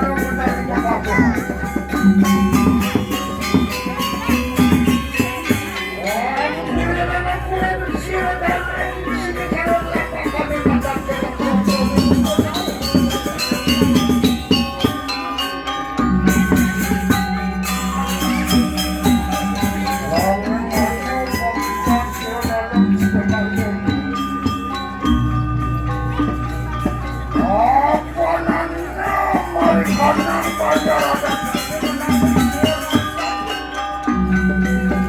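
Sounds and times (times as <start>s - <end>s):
metallophones ringing: 0.0s - 35.0s.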